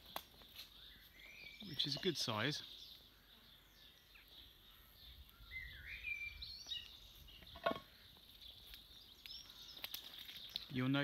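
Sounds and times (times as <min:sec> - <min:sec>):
birdsong chirps: 0:00.0 - 0:11.0.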